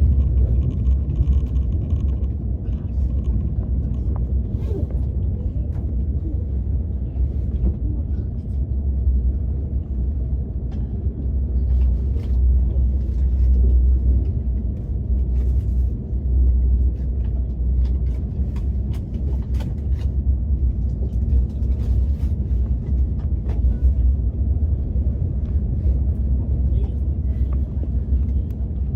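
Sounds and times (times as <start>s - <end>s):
train rumble inside passenger car: 0.0s - 28.9s.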